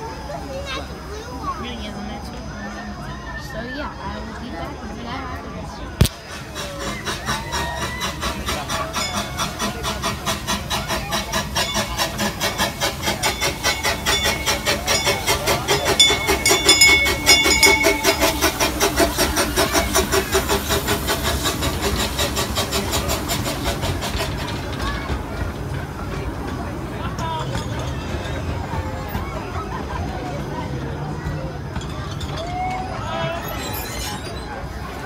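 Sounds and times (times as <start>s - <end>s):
steam locomotive chuffing: 6.0s - 35.0s.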